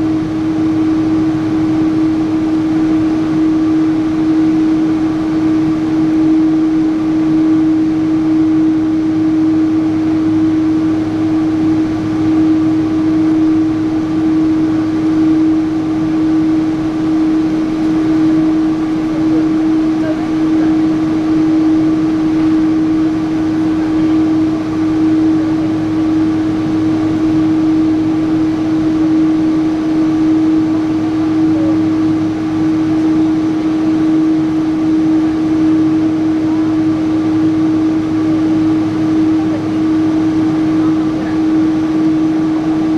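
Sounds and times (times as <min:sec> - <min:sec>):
airplane cabin hum: 0:00.0 - 0:42.9.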